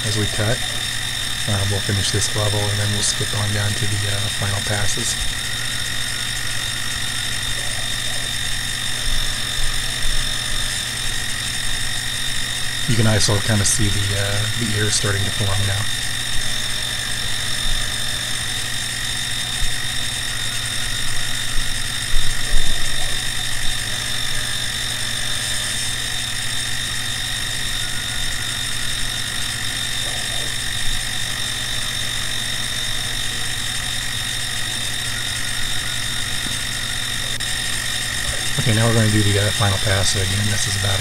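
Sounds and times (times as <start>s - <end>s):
low hum: 0.0s - 41.0s
milling machine whine: 0.0s - 41.0s.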